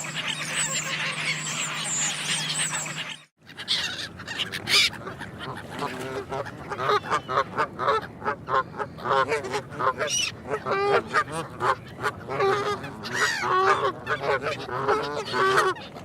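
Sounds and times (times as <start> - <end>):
geese honking: 0.0 - 15.9.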